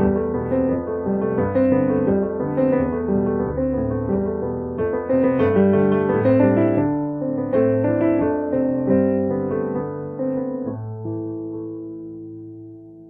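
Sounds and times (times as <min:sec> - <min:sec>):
slow solo piano music: 0:00.0 - 0:13.0.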